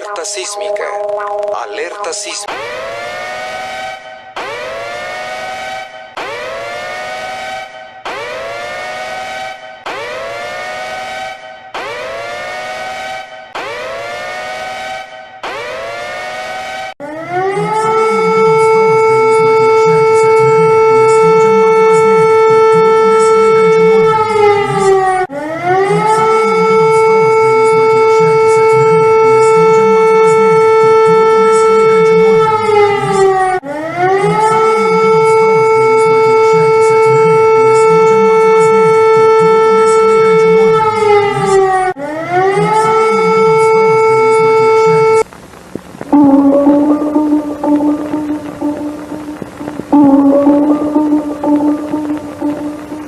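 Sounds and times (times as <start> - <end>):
civil defence siren: 0.0 - 45.3, 46.1 - 53.0.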